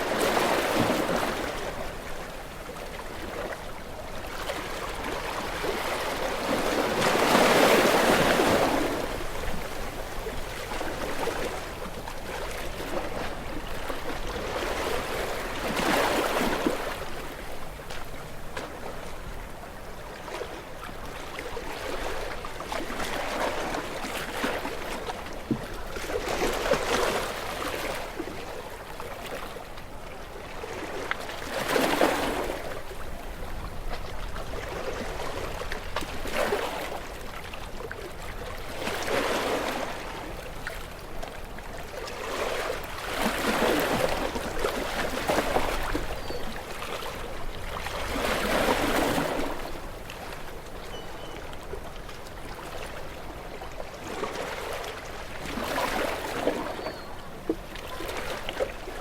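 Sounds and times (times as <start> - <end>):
sea waves washing on shore: 0.0 - 59.0.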